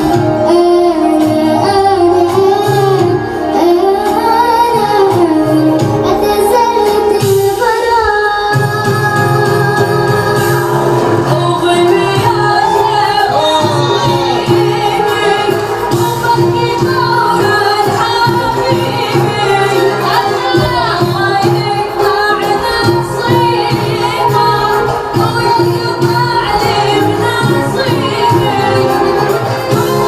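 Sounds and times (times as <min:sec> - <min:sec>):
instrumental accompaniment with bass: 0:00.0 - 0:30.0.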